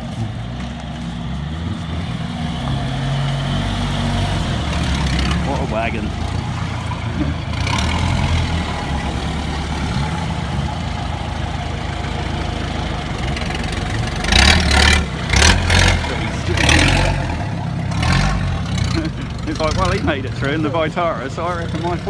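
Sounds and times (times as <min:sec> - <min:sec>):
engine running at low revs: 0:00.0 - 0:22.0.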